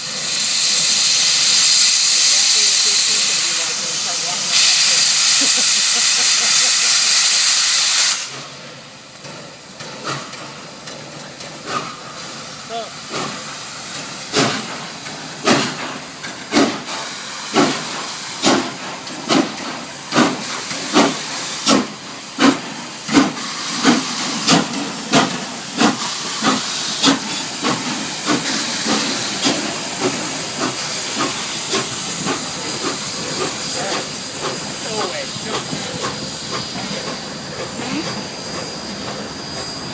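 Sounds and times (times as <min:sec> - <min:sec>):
steam hissing: 0:00.0 - 0:39.9
steam locomotive chuffing: 0:00.0 - 0:39.9.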